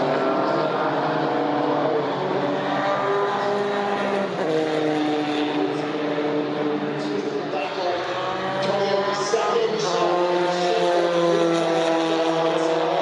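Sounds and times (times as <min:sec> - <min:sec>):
racing car engines passing: 0:00.0 - 0:13.0.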